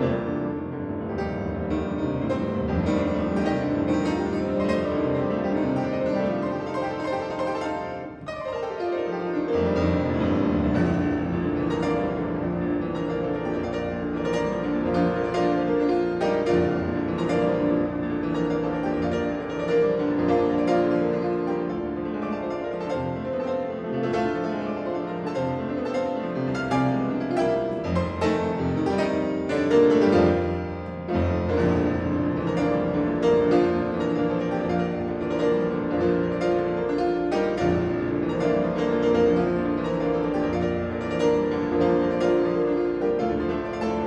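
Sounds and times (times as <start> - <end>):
solo piano classical piece: 0.0 - 44.0.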